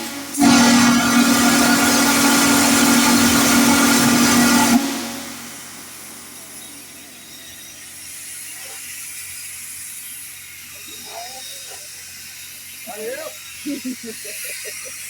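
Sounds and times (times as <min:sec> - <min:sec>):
steady steam hiss: 0:00.0 - 0:15.0.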